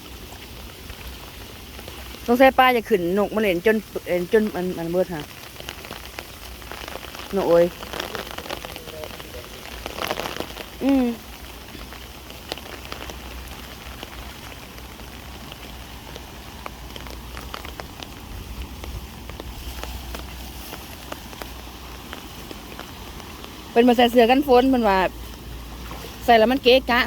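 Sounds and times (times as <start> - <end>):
rain pattering on surfaces: 0.0 - 27.0.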